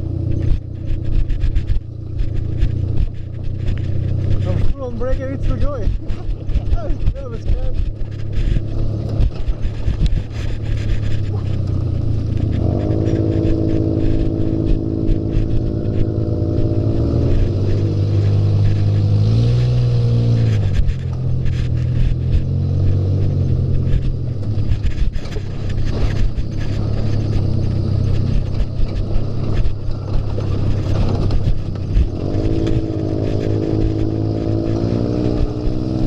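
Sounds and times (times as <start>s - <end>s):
buggy engine running: 0.0s - 36.0s
knocks and rattles: 0.0s - 36.0s.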